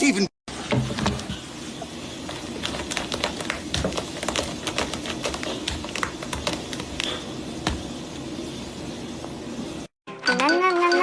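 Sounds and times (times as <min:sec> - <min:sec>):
steady background hum: 0:00.5 - 0:09.9.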